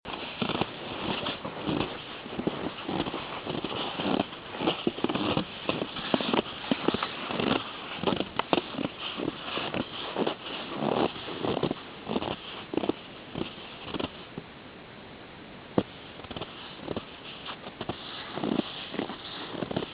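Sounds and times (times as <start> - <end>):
footsteps crunching in snow: 0.0 - 14.4, 15.8 - 19.9.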